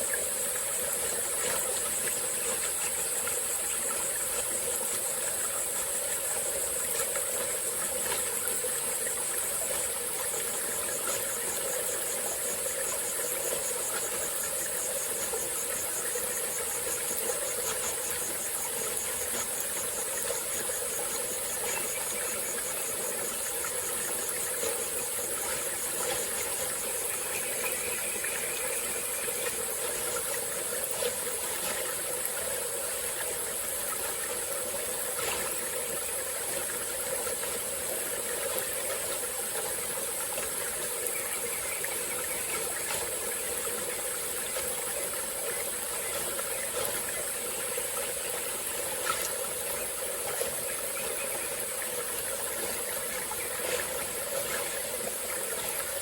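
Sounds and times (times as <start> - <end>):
high-pitched insect chorus: 0.0 - 56.0
stream burbling: 0.0 - 56.0.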